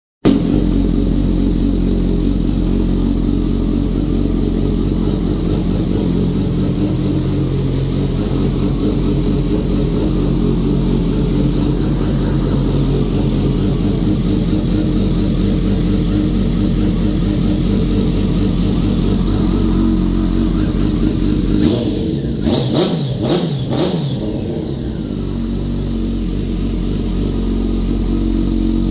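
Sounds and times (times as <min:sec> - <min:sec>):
motorcycle engine idling and revving: 0:00.2 - 0:28.9.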